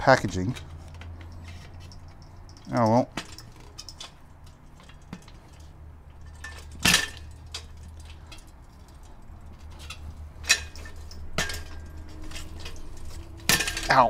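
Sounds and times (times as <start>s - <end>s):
light metallic clinks: 0.3s - 14.0s.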